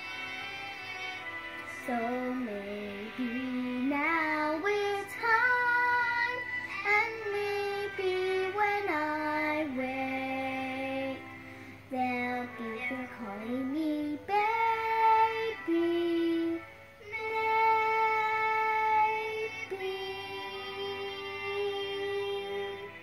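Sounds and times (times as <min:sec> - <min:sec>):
girl singing slow tune: 0:00.0 - 0:23.0.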